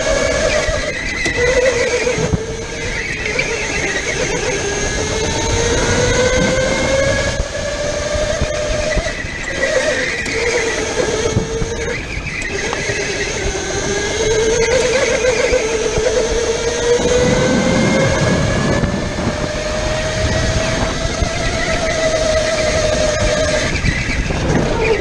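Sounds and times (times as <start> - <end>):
go-kart motor whining: 0.0 - 25.0
rumble of tyres and chassis: 0.0 - 25.0.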